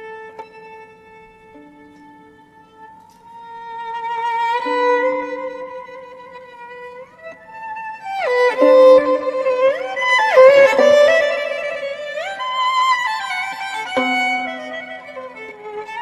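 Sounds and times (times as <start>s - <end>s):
bowed string melody: 0.0s - 16.0s.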